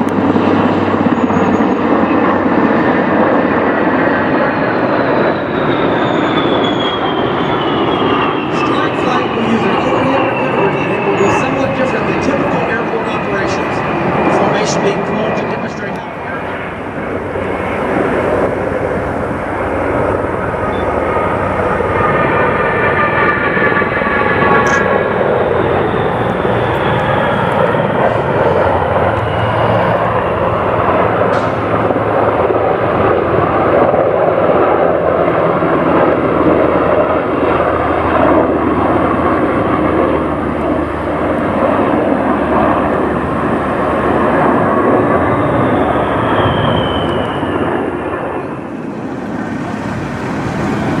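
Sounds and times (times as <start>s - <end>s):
engine whine: 0.0s - 51.0s
military aircraft engines: 0.0s - 51.0s.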